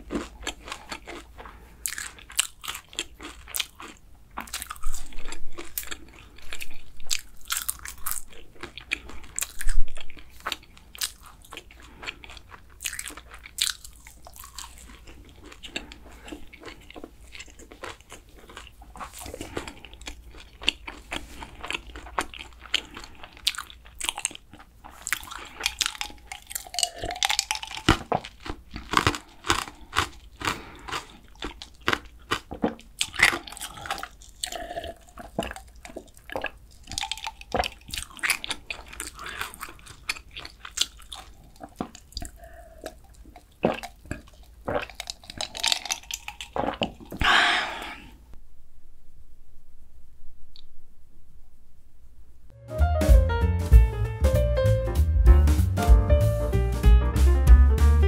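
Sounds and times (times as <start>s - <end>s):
crunching and chewing pastry: 0.0s - 48.3s.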